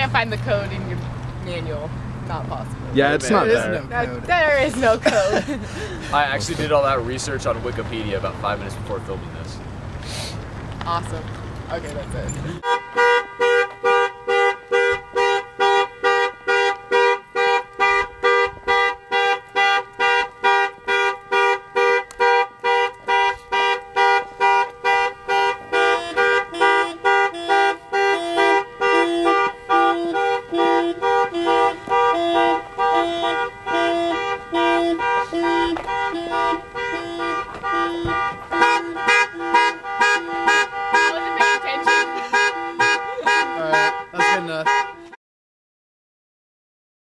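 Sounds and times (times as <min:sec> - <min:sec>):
car horn honking: 0:00.0 - 0:09.2, 0:11.8 - 0:45.2.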